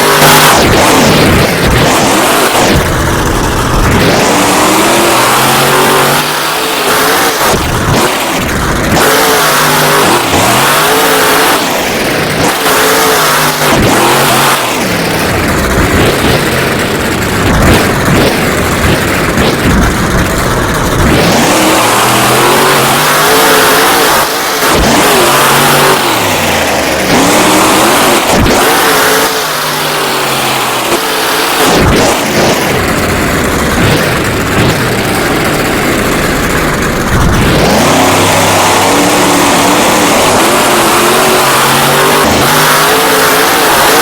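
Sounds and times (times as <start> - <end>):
monster truck engine revving: 0.0 - 44.0.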